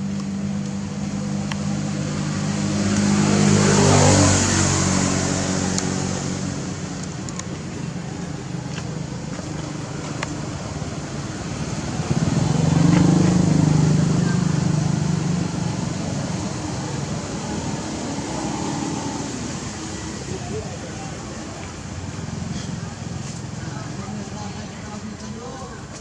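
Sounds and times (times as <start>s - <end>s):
vehicle engines passing by: 0.0s - 26.0s.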